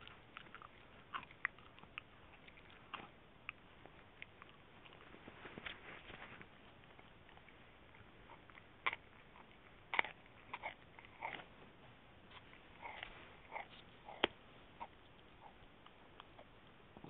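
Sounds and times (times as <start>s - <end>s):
dog gnawing on a chew: 0.0s - 11.5s, 12.3s - 16.5s.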